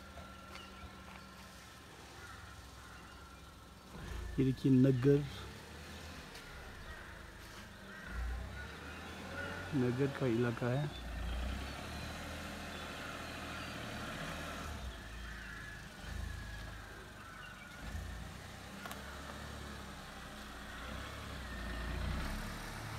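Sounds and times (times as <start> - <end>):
car engine running at low revs: 0.0 - 22.9.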